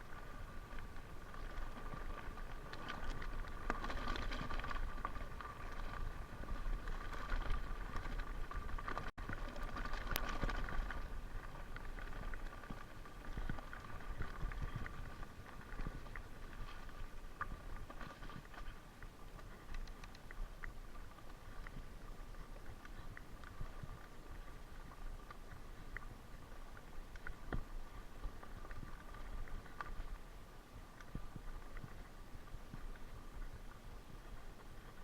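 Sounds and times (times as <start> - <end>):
low wind rumble: 0.0 - 35.0.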